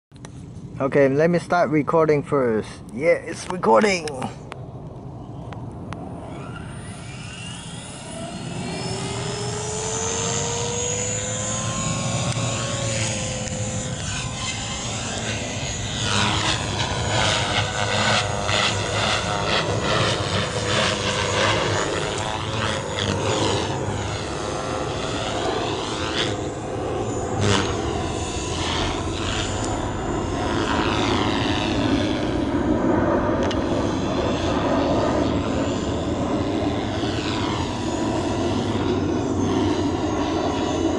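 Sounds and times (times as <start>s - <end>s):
rc helicopter motor whine: 3.8s - 40.9s.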